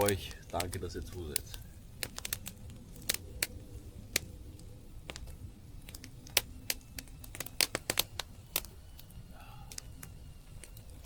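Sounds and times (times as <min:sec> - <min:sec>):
burning wood popping and snapping: 0:00.0 - 0:11.0
campfire crackling: 0:00.0 - 0:11.0.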